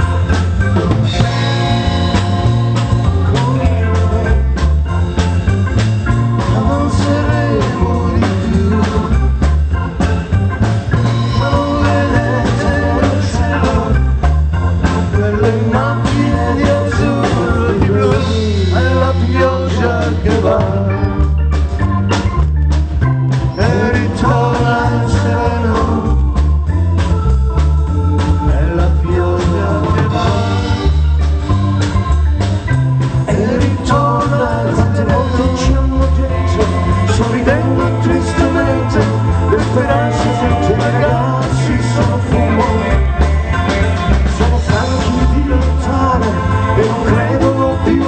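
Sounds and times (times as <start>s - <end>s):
drums and bass beat: 0.0s - 48.0s
electric organ melody: 0.0s - 48.0s.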